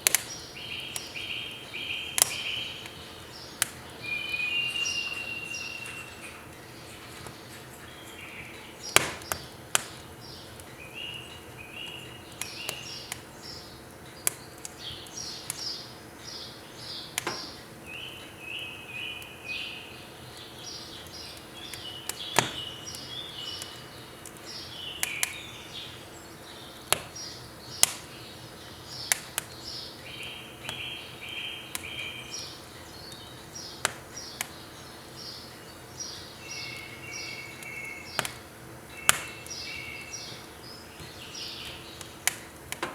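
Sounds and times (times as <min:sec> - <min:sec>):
birds chirping: 0:00.0 - 0:42.9
firewood crackling and popping: 0:00.0 - 0:42.9.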